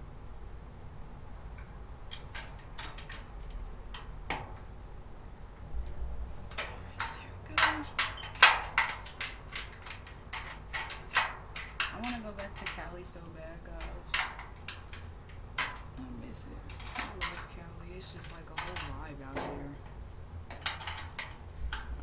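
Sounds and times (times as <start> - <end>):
metal cart parts clicking: 1.6 - 4.5, 6.4 - 22.0.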